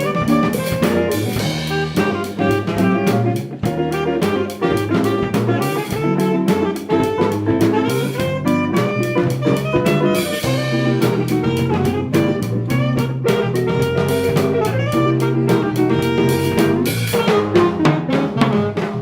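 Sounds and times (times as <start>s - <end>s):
bass line: 0.0s - 19.0s
drum kit beat: 0.0s - 19.0s
horns and saxophone melody: 0.0s - 19.0s.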